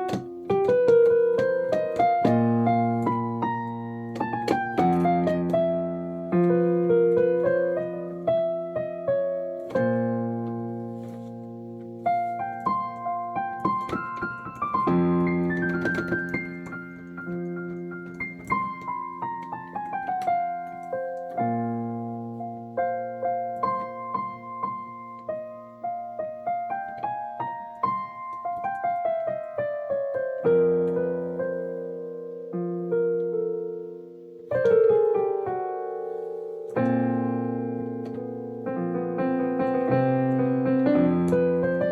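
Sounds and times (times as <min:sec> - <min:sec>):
solo piano playing: 0:00.0 - 0:41.9.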